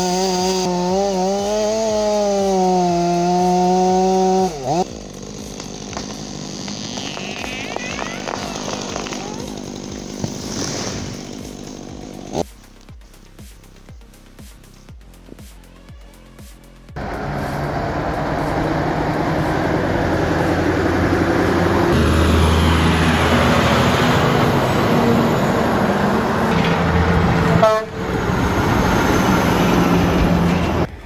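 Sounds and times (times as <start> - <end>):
road noise: 0.0 - 12.9, 17.0 - 31.0
truck diesel engine running: 0.0 - 14.3, 17.0 - 31.0.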